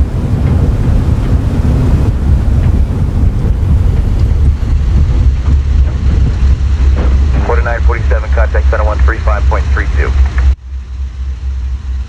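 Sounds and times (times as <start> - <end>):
radial aircraft engines droning: 0.0 - 12.0.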